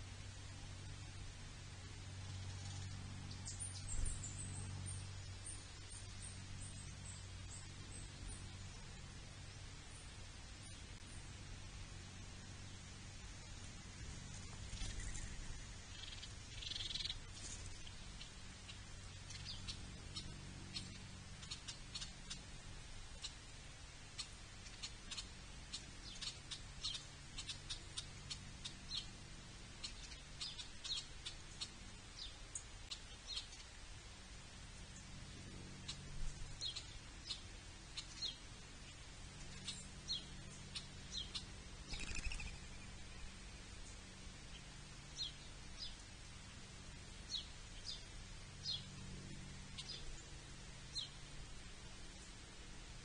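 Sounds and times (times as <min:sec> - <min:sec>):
small birds chirping: 0:00.0 - 0:53.0
steady low hum: 0:00.0 - 0:53.0.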